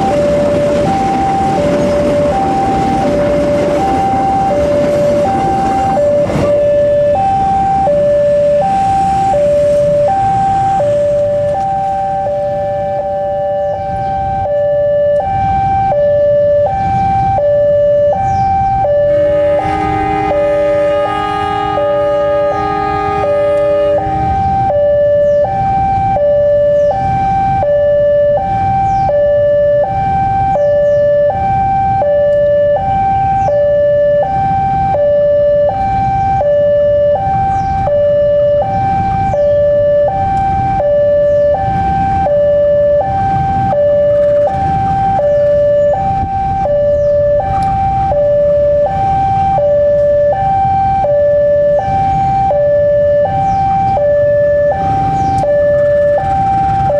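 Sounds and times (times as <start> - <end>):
diesel locomotive engine rumble: 0.0 - 56.9
two-tone electronic alarm: 0.0 - 56.9.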